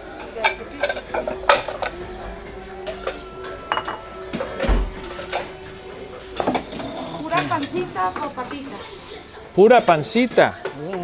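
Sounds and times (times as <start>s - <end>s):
steady hum: 0.0s - 9.6s
bowls and utensils clinking: 0.0s - 11.0s.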